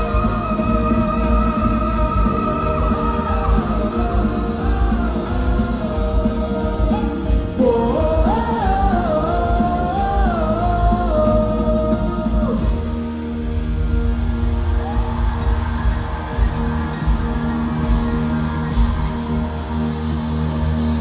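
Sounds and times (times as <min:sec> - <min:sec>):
melodic lead guitar line: 0:00.0 - 0:21.0
rock band backing: 0:00.0 - 0:21.0.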